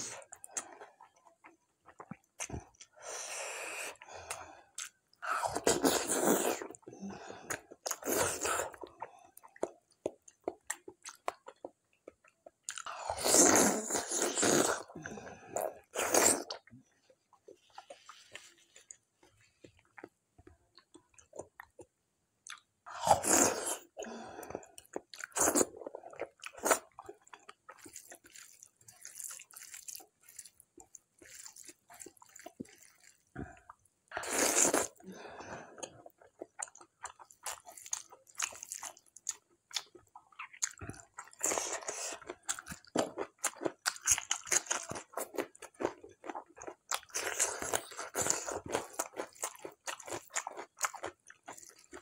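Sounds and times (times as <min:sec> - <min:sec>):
close-up chewing and mouth sounds: 0:00.0 - 0:52.0.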